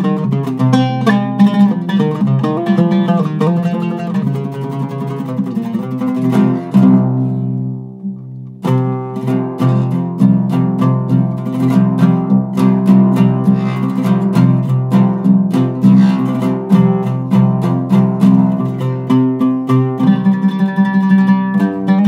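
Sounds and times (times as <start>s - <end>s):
oud picked with plectrum: 0.0s - 22.0s.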